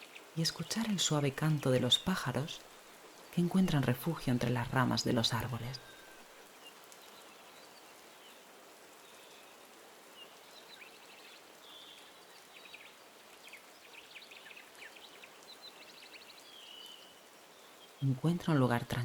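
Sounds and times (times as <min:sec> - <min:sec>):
small birds chirping: 0:00.0 - 0:19.0
soft rain hiss: 0:00.0 - 0:19.0.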